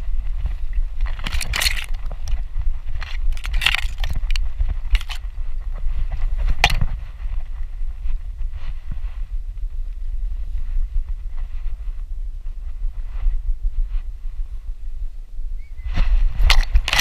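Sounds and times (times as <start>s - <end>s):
grass brushing against camera: 0.0s - 14.6s, 15.8s - 17.0s
wind buffeting microphone: 0.0s - 17.0s.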